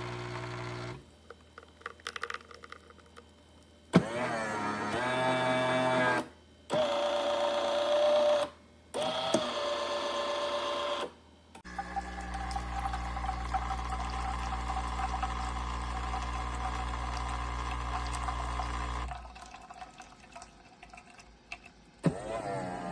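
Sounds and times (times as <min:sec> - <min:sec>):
pump humming with liquid hiss: 0:00.0 - 0:22.9.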